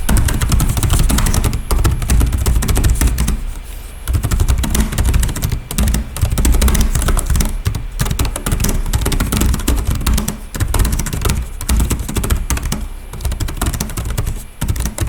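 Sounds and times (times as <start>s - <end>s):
fast typing on laptop keyboard: 0.0s - 15.0s.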